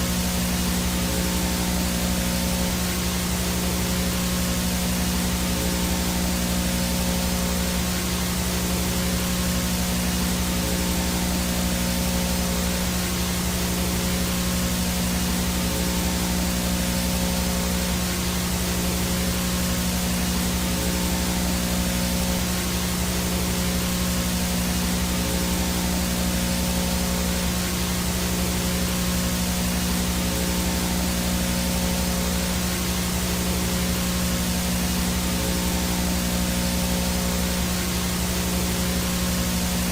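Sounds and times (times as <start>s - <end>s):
low buzzing hum: 0.0s - 39.9s
static hiss: 0.0s - 39.9s.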